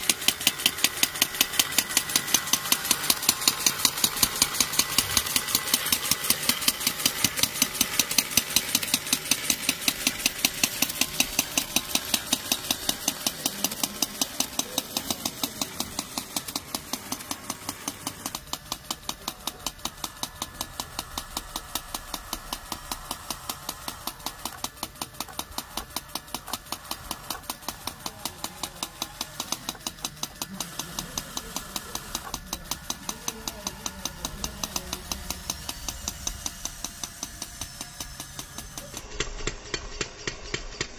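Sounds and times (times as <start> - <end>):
machine gear drive clicking: 0.0 - 40.9.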